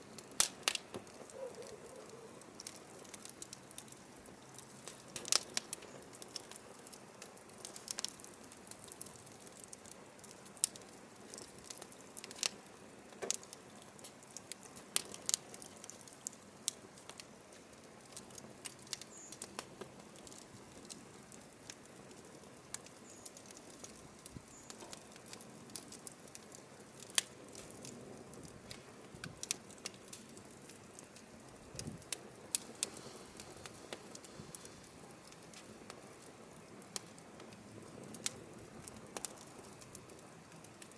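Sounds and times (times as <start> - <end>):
firewood crackling and popping: 0.0 - 40.9
soft hiss of fire: 0.0 - 40.9.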